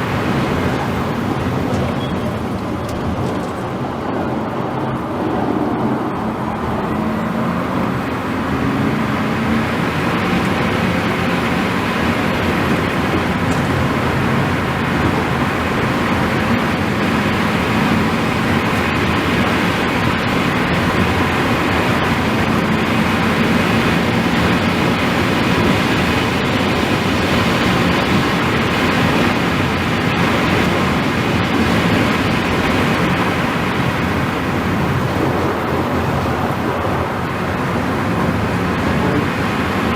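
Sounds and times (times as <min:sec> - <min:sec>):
tyre and wind roar: 0:00.0 - 0:39.9.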